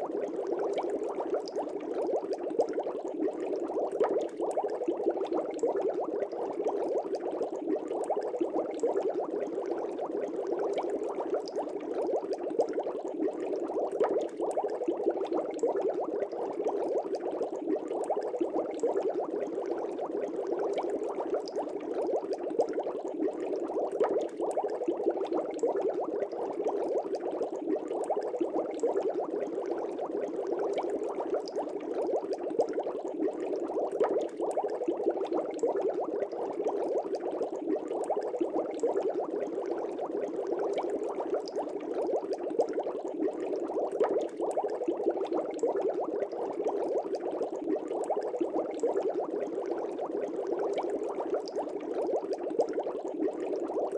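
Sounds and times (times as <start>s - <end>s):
aquarium air bubbling: 0.0s - 53.9s.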